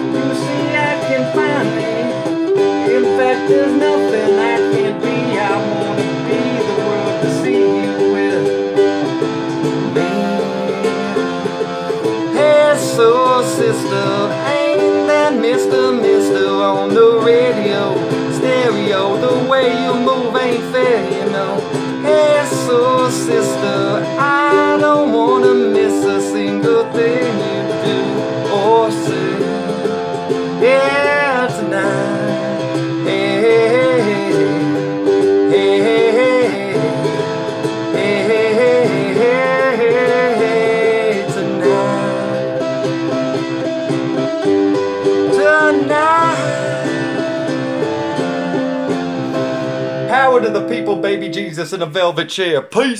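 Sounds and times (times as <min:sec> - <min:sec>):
ukulele strumming: 0:00.0 - 0:51.5.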